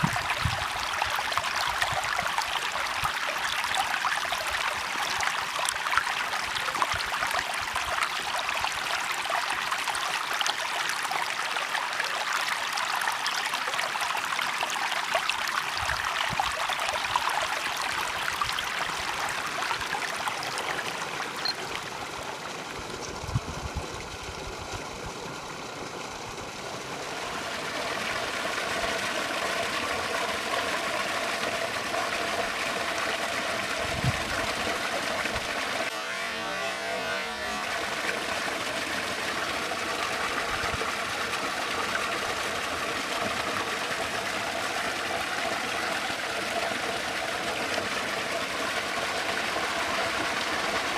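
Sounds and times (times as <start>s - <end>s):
stream of running water: 0.0s - 50.9s.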